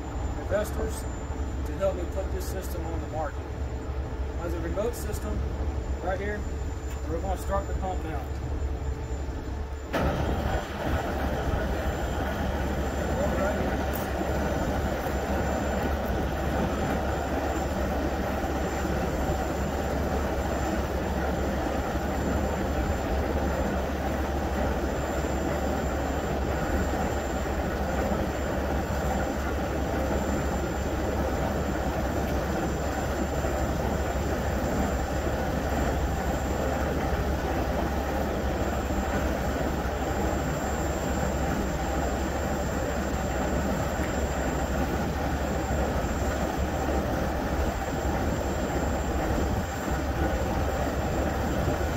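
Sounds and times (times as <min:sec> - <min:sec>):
fuel pump running: 0:09.8 - 0:51.9
truck diesel engine running: 0:09.8 - 0:51.9.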